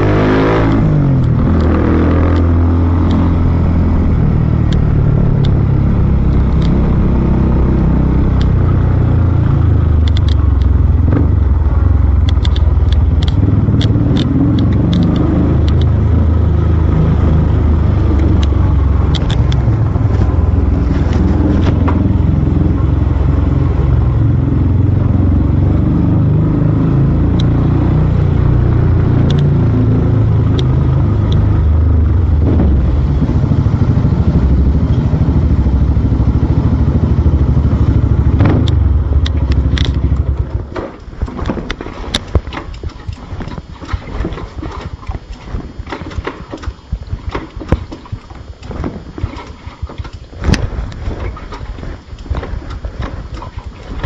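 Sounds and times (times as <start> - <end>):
sharp clicks and rattles: 0.0 - 24.4, 26.9 - 54.0
motorcycle engine rumbling: 0.0 - 54.0.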